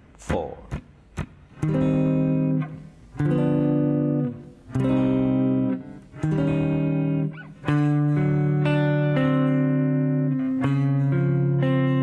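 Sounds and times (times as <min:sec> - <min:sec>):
electric guitar chords: 0:01.1 - 0:12.0.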